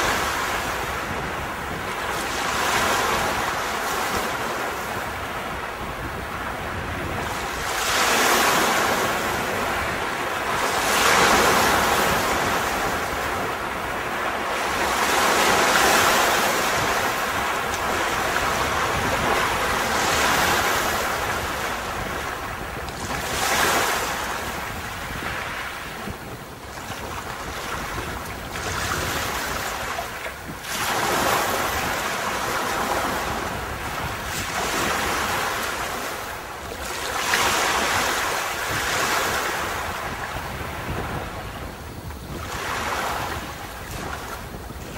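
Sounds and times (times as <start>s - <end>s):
sea surf breaking on beach: 0.0s - 44.9s.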